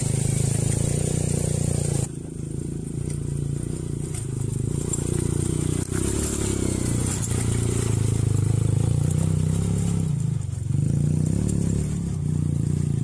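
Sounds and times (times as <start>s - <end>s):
quad bike engine under load: 0.0s - 13.0s.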